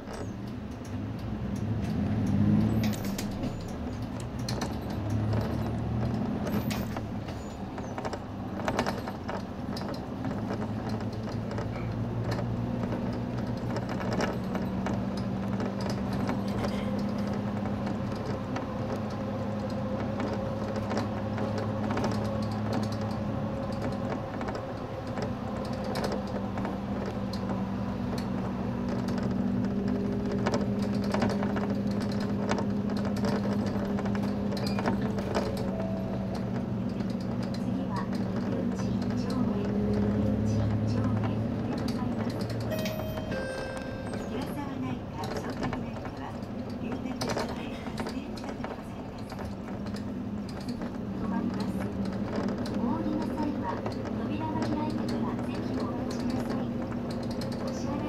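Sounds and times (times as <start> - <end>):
cabin fittings creaking and rattling: 0.0 - 43.3, 44.0 - 58.0
bus diesel engine hum: 0.0 - 58.0.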